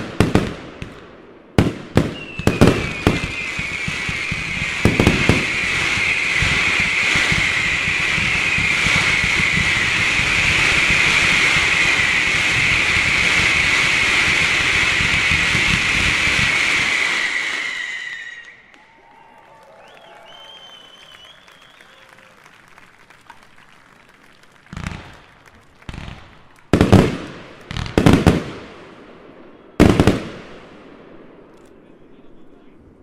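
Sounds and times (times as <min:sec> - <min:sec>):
fireworks crackling: 0:00.0 - 0:18.9, 0:19.8 - 0:31.8
whistling fireworks falling in pitch: 0:01.6 - 0:28.6, 0:29.2 - 0:30.4.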